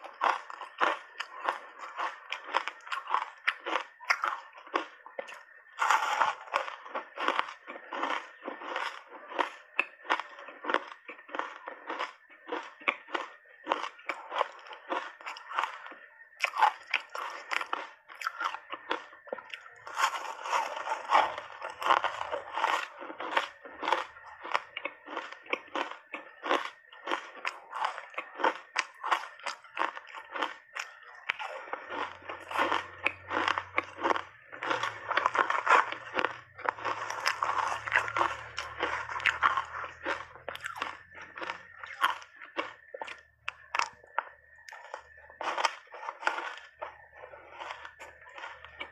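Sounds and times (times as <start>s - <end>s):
ice being chewed crunching: 0.0s - 48.9s.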